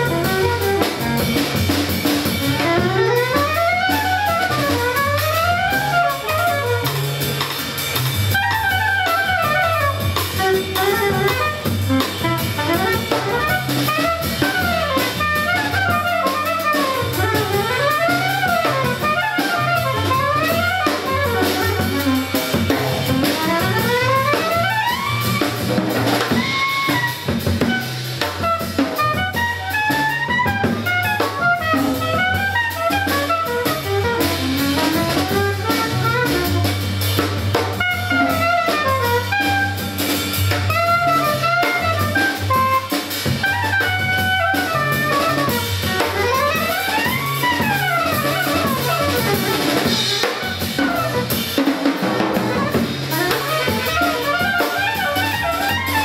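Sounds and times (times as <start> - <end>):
drum kit: 0.0 - 56.0
upright double bass: 0.0 - 56.0
woodwind solo in fast runs: 0.0 - 56.0.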